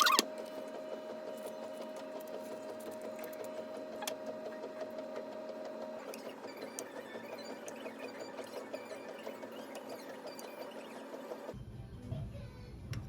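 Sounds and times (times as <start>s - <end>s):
machine hum: 0.0s - 11.6s.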